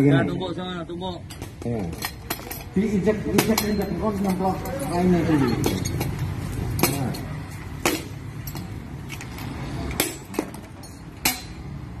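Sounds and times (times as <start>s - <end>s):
metal exhaust clanking on pavement: 1.2s - 11.9s.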